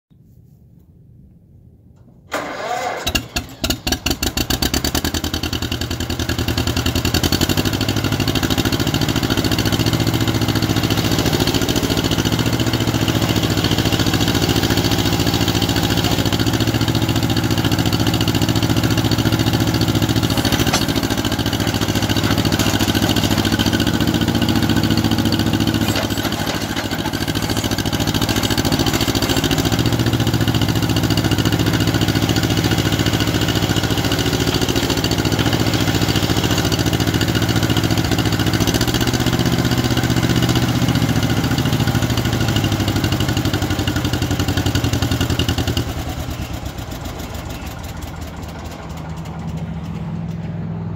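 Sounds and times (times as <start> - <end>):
tractor engine starting and running: 1.9 - 50.9.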